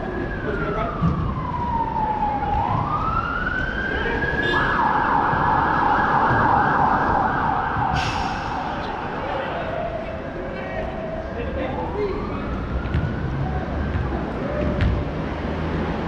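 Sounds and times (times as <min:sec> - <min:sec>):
emergency siren wailing and yelping: 0:00.0 - 0:14.8.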